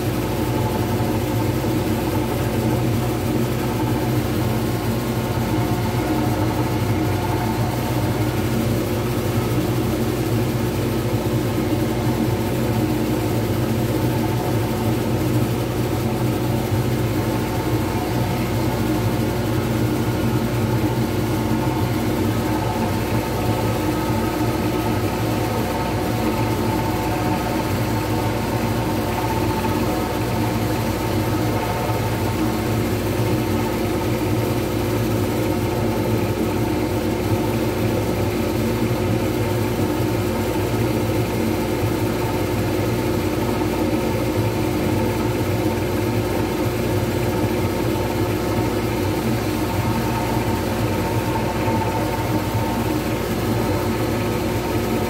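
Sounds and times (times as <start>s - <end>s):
lathe motor humming: 0.0s - 55.0s.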